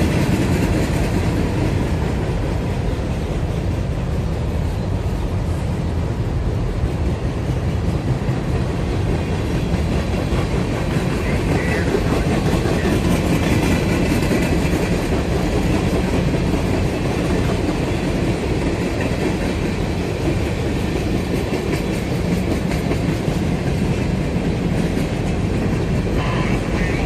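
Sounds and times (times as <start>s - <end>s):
freight train wheels rumbling on rail: 0.0s - 27.0s
train cars clickety-clack: 0.0s - 27.0s.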